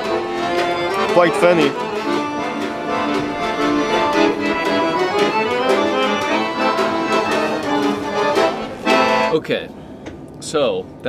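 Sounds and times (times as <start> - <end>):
accordion playing chords: 0.0 - 9.4.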